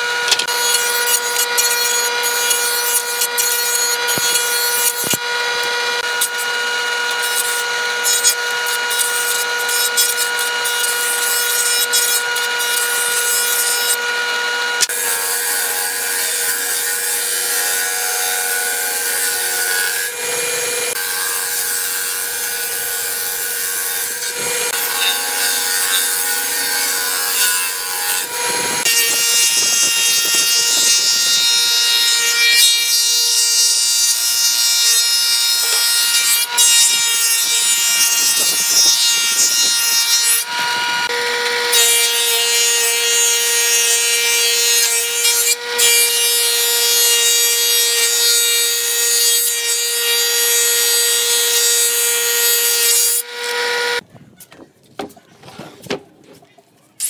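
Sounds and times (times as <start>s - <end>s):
planer cutterhead whine: 0.0s - 54.0s
wood being cut: 0.0s - 54.0s.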